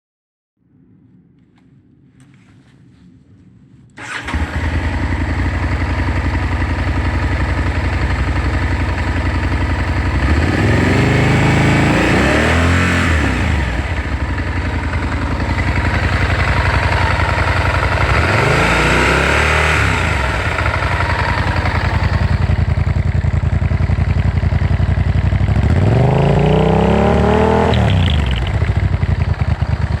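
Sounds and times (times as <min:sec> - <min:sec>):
motorcycle engine idling and revving: 0:04.0 - 0:30.0
motorcycle engine starting: 0:04.0 - 0:30.0.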